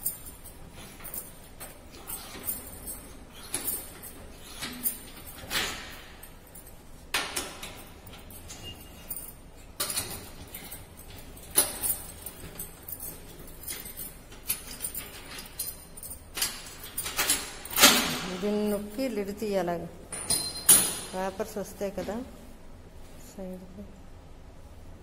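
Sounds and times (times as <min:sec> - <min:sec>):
bangles jingling: 0:00.0 - 0:19.2, 0:20.1 - 0:21.1.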